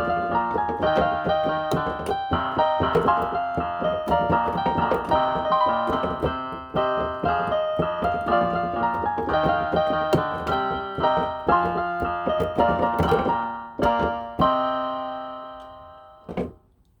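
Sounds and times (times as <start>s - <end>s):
electronic keyboard piano notes: 0.0s - 16.6s.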